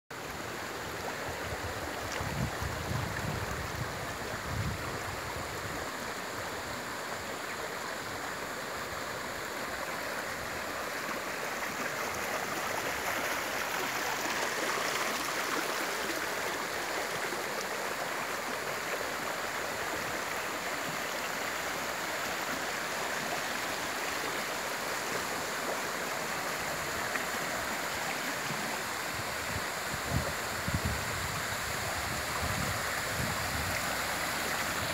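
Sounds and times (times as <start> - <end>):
small waterfall cascading: 0.1 - 34.9
stream water rushing over stones: 0.1 - 34.9.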